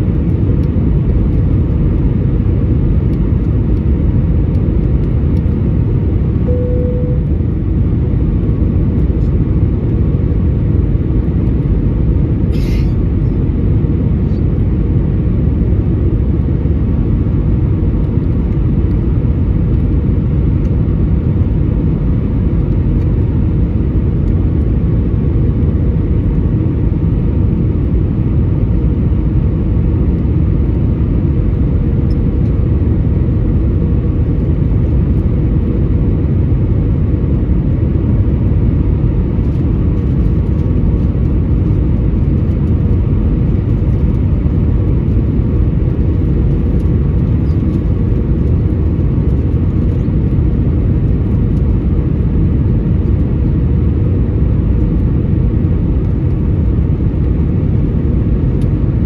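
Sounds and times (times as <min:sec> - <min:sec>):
airplane cabin rumble: 0:00.0 - 0:59.0
faint steady hum: 0:00.0 - 0:59.0.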